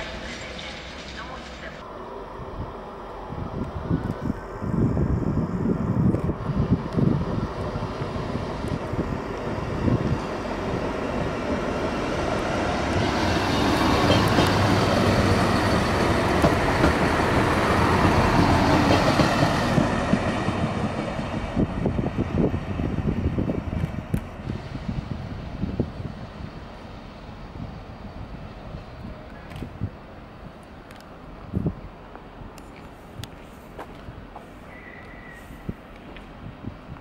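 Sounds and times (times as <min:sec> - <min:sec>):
train wheels on rails: 0:00.0 - 0:01.9, 0:03.4 - 0:37.0
diesel railcar engine: 0:00.0 - 0:37.0.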